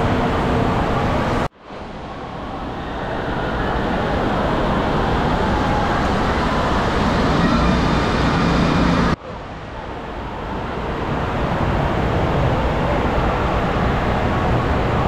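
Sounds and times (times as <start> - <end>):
distant crowd noise: 0.0 - 15.0
rushing water: 0.0 - 15.0.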